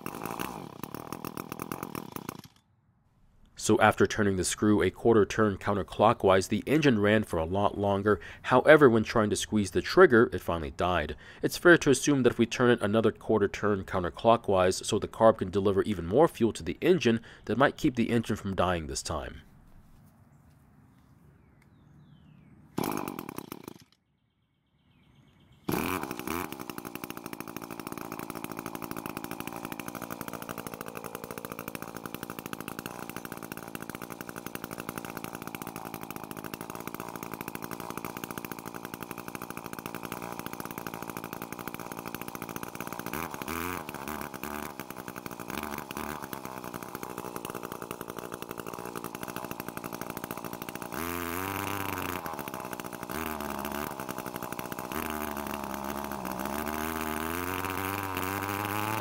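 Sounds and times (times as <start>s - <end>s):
small two-stroke engine running: 0.0s - 2.6s, 3.6s - 19.4s, 22.8s - 24.0s, 25.7s - 59.0s.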